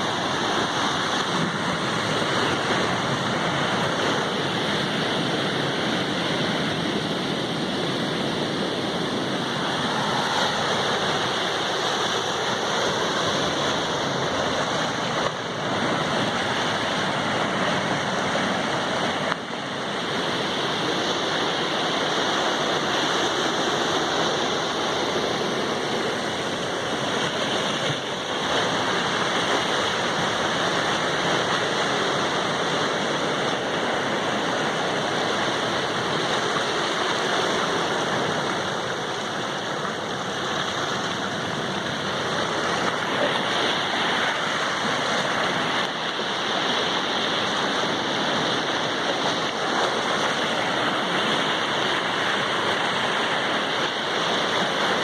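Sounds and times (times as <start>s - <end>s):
sea surf rushing: 0.0s - 55.0s.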